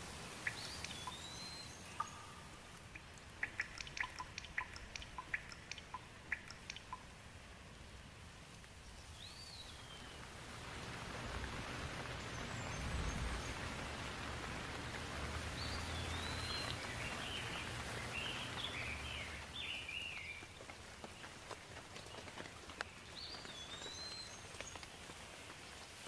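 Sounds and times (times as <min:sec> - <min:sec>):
steady rain falling: 0:00.0 - 0:26.0
bird chirping: 0:00.3 - 0:07.1, 0:08.8 - 0:10.3, 0:11.2 - 0:21.4, 0:22.0 - 0:25.0.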